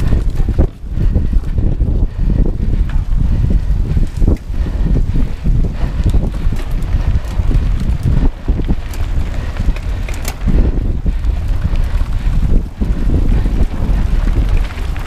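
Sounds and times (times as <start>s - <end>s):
bike clicks and rattles: 0.0s - 15.0s
tyre and frame noise: 0.0s - 15.0s
wind buffeting microphone: 0.0s - 15.0s.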